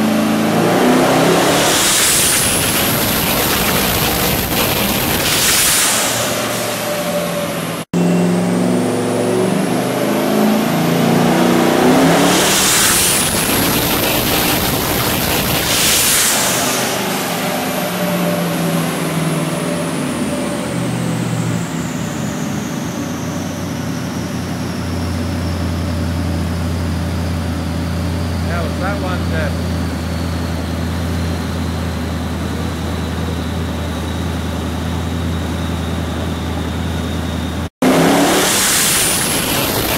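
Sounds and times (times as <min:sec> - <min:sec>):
car engine revving: 0:00.0 - 0:39.9
high turbo whine: 0:00.0 - 0:39.9.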